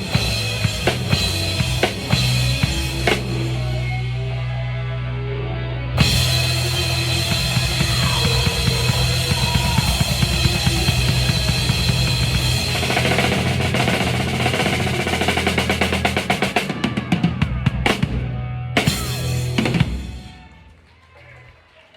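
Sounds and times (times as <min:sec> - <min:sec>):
drum roll: 0:00.0 - 0:03.6, 0:06.0 - 0:20.6
live band playing: 0:00.0 - 0:20.7.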